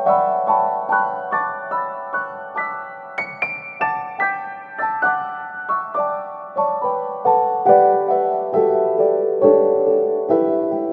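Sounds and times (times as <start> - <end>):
gentle piano melody: 0.0 - 10.9.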